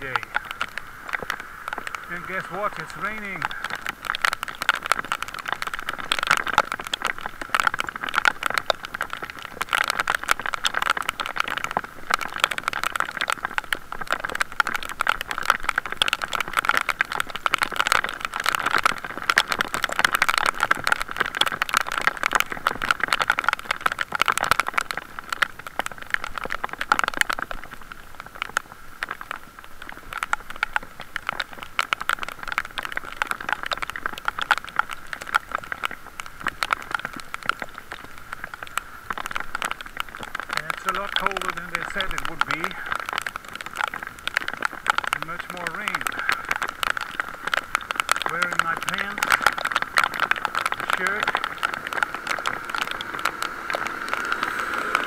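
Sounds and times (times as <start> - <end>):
heavy rain on camera case: 0.0 - 55.0.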